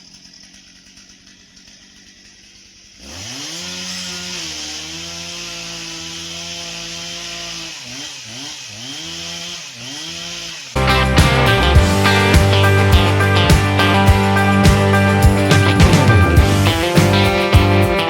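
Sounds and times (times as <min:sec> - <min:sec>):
chainsaw cutting wood: 0:00.0 - 0:17.4.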